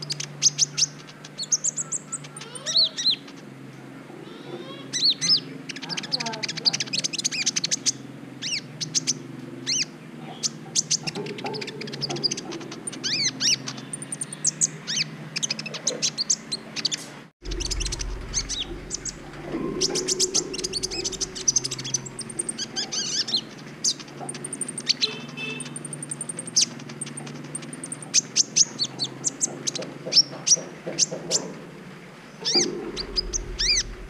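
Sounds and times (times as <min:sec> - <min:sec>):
bird chirping and trilling: 0:00.0 - 0:03.5, 0:04.3 - 0:31.4, 0:32.4 - 0:34.0.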